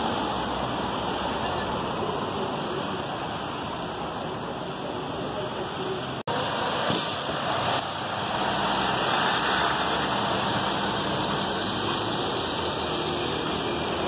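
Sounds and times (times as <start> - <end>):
rushing street and vehicle noise: 0.0 - 14.0.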